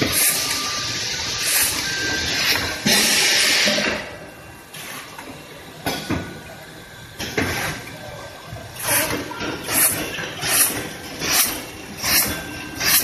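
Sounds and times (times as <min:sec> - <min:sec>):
production-line machinery running: 0:00.0 - 0:13.0.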